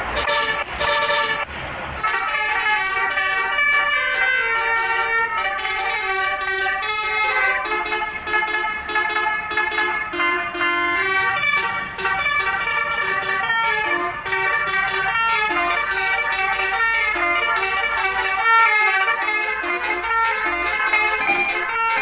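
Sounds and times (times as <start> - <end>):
bus horn playing a tune: 0.0 - 22.0.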